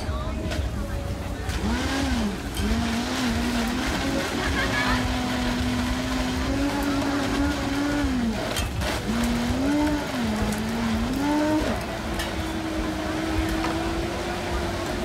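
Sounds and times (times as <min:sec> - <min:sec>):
blender motor whining: 0:01.5 - 0:15.0.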